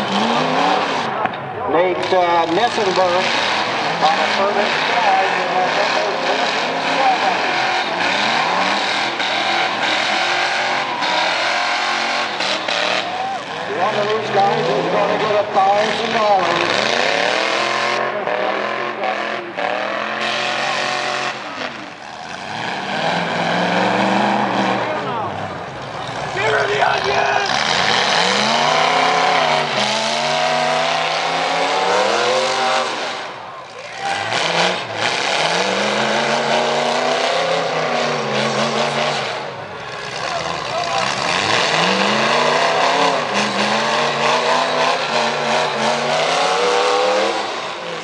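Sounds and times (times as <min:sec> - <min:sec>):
truck engines revving loudly: 0:00.0 - 0:48.0.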